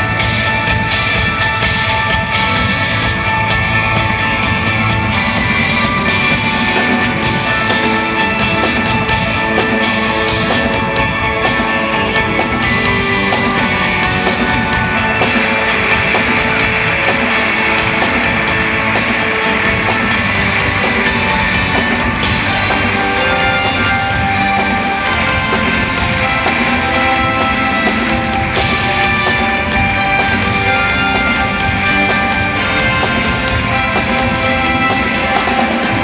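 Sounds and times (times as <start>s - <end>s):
drum kit: 0.0s - 36.0s
electric guitars: 0.0s - 36.0s.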